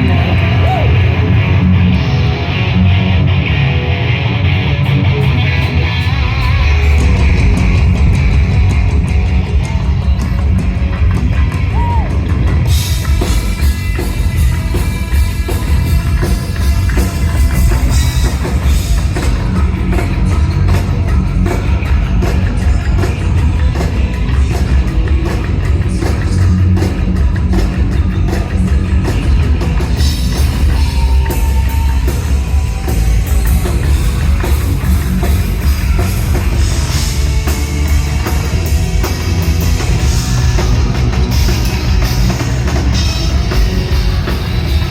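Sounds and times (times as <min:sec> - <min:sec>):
bass guitar: 0:00.0 - 0:44.9
electric guitars: 0:00.0 - 0:44.9
drum kit: 0:05.0 - 0:44.9.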